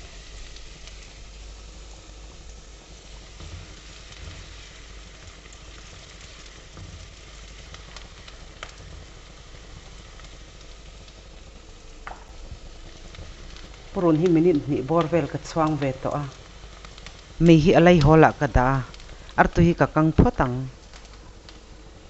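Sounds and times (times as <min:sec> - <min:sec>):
onion sizzling in oil: 0:00.0 - 0:22.0.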